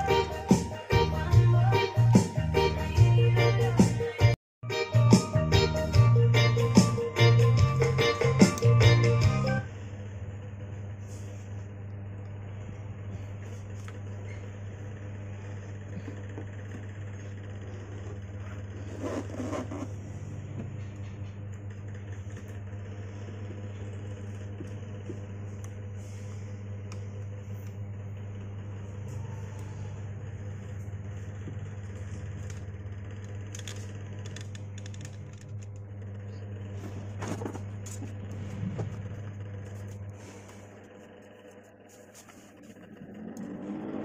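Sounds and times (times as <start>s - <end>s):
speaker electrical hum: 0.0s - 44.0s.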